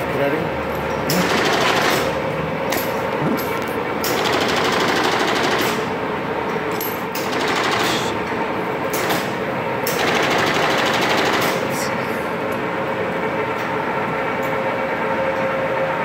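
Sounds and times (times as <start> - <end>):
lathe mechanical clatter: 0.8 - 13.8.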